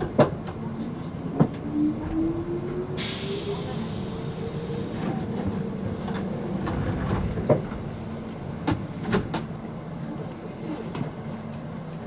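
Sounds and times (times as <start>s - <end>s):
train hum: 0.0s - 12.0s
train rumble: 0.0s - 12.0s.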